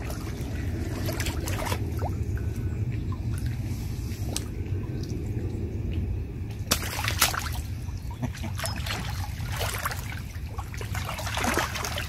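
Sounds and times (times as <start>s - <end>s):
water splashing: 0.0s - 5.5s, 6.6s - 12.0s
low steady rumble: 0.0s - 12.0s.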